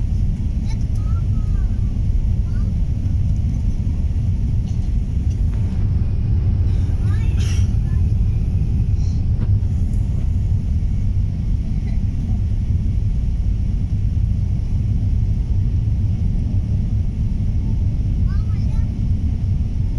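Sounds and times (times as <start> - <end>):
jet engine cabin rumble: 0.0 - 19.9.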